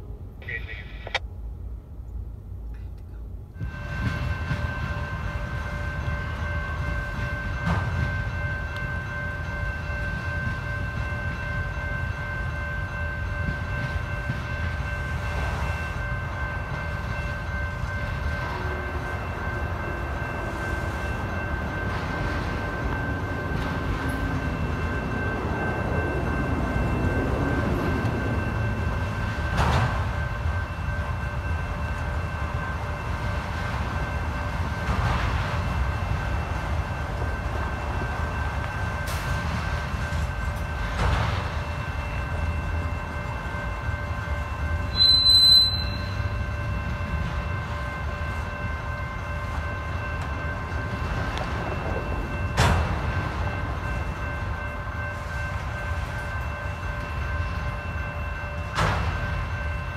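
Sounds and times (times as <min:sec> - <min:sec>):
train wheels rumbling and rattling: 0:00.0 - 0:59.9
crossing signal ringing: 0:03.5 - 0:59.9.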